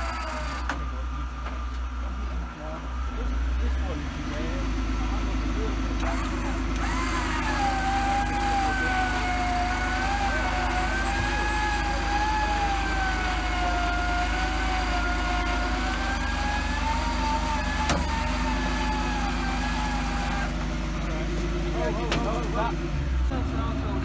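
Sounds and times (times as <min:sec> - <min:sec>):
electric winch whining: 0:00.0 - 0:21.9
idling engine hum: 0:00.0 - 0:24.0.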